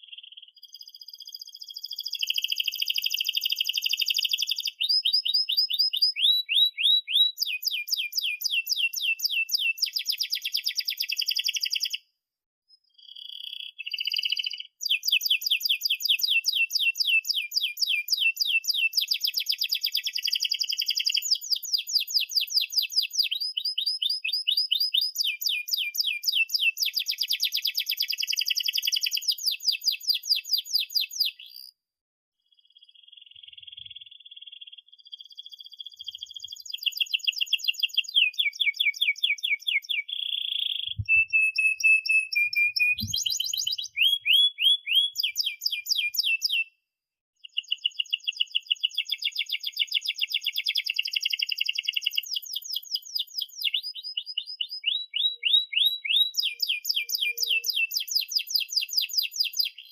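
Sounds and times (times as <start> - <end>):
canary singing trills: 0.0 - 12.0, 12.7 - 31.8, 32.5 - 46.7, 47.4 - 59.9.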